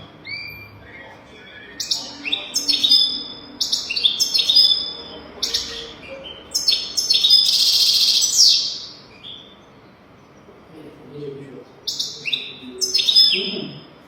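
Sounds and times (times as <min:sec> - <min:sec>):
buzzy bird trill: 0:00.0 - 0:10.4, 0:11.8 - 0:14.0
goldfinch twittering song: 0:00.0 - 0:10.4, 0:11.8 - 0:13.9.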